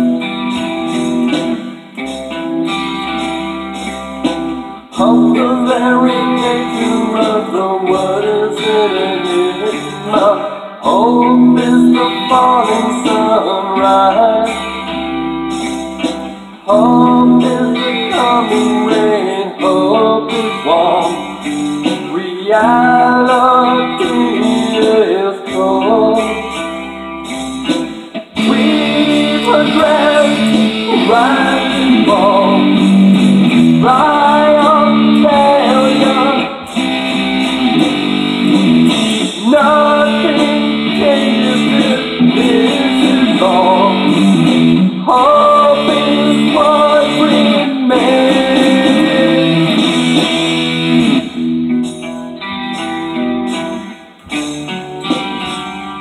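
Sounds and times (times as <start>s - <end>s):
electric guitar rock playing: 0.0s - 56.0s.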